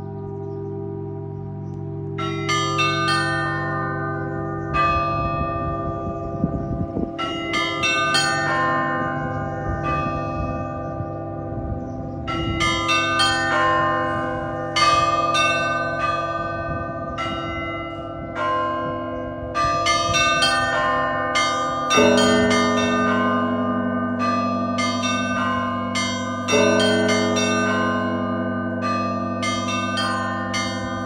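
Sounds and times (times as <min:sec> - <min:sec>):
hum of large bells: 0:00.0 - 0:31.0
small church bells ringing: 0:00.0 - 0:31.0.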